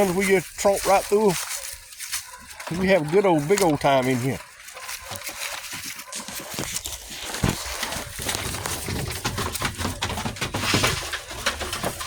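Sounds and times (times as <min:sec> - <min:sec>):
rustling: 0:00.0 - 0:12.0
scuffing footsteps: 0:00.0 - 0:12.0.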